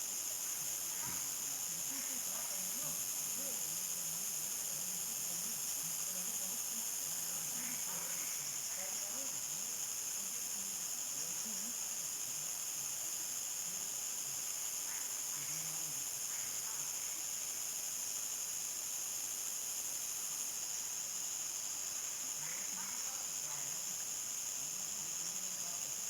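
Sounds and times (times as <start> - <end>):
crickets and night insects trilling: 0.0 - 26.0.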